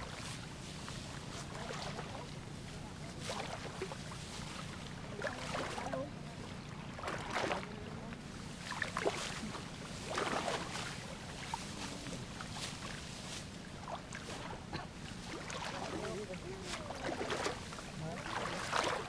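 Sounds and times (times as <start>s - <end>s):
water sloshing from wading legs: 0.0s - 19.0s.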